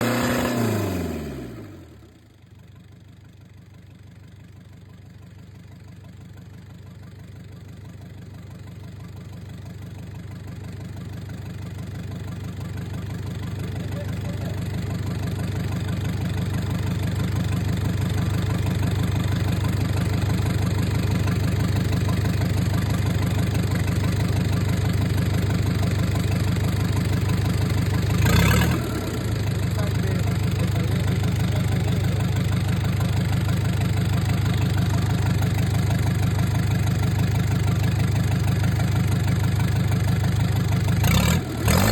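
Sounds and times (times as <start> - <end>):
diesel engine idling and revving: 0.0 - 41.9.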